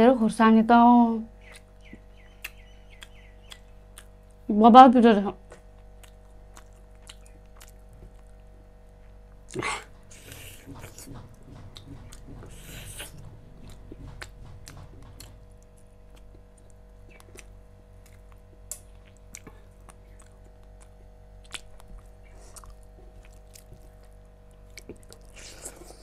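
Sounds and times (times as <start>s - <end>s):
faint steady hum: 0.0s - 26.0s
person chewing food: 1.4s - 4.4s, 5.5s - 26.0s.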